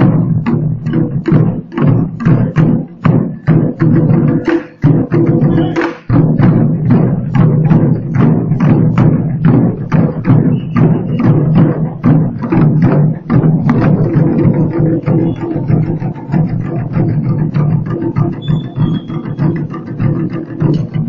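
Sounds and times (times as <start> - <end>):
barrel drums beaten fast: 0.0 - 21.0.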